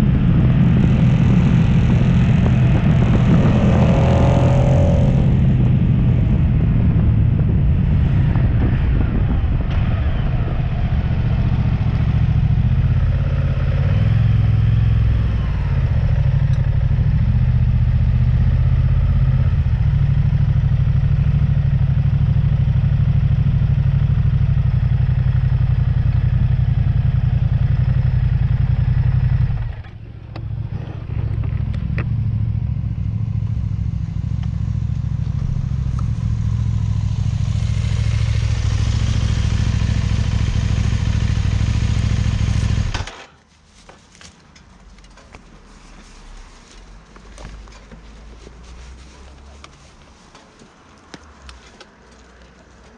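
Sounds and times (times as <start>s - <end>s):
motorcycle engine slowing and idling: 0.0s - 43.4s.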